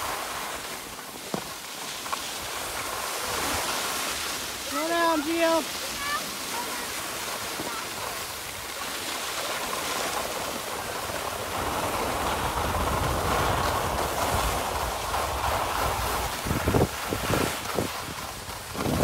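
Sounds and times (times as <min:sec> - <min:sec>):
skis hissing over snow: 0:00.0 - 0:19.0.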